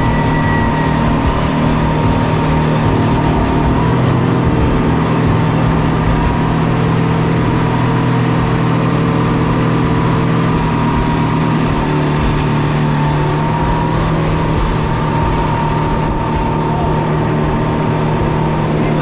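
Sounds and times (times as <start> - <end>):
rushing wind: 0.0 - 19.0
speedboat engine running: 0.0 - 19.0
water rushing: 0.0 - 19.0.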